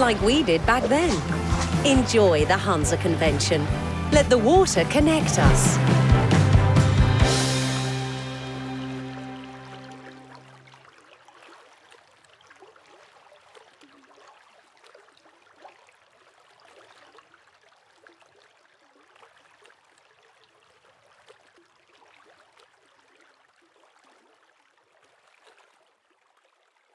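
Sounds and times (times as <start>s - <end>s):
stream babbling and trickling: 0.0s - 26.9s.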